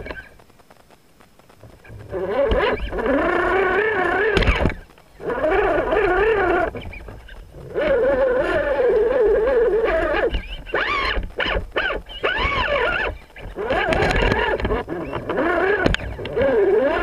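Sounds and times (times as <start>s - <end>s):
electric motor and gears whining: 1.5s - 17.0s.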